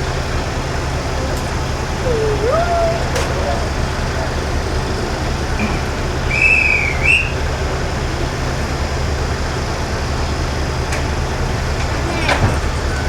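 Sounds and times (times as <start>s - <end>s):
diesel railcar engine rumble: 0.0s - 13.0s.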